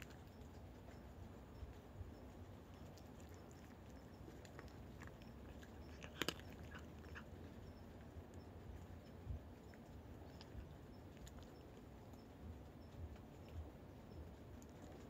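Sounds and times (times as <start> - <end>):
cats crunching dry kibble: 0.0 - 15.0.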